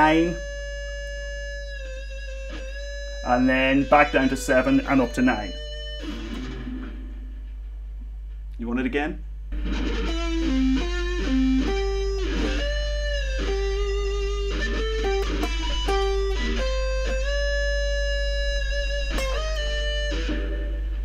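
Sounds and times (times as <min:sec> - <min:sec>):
electric guitar melody: 0:00.0 - 0:07.7, 0:09.5 - 0:21.0
steady low hum: 0:00.0 - 0:21.0.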